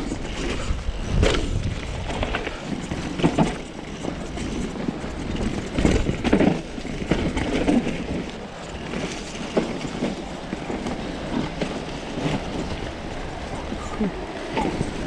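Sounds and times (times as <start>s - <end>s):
bike knocks and rattles: 0.0s - 13.1s
bike tyres rolling through mud: 0.0s - 15.0s
wind buffeting microphone: 0.0s - 15.0s.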